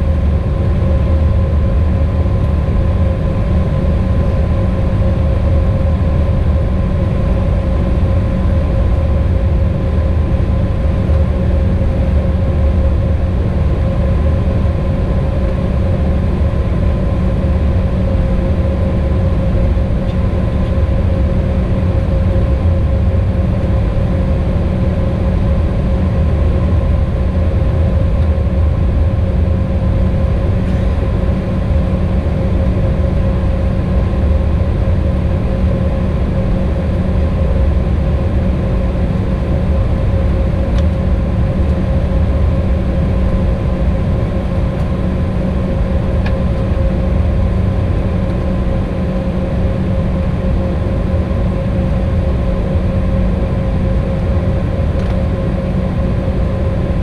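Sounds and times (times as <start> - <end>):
jet engines droning: 0.0 - 57.0
steady high hum: 0.0 - 57.0.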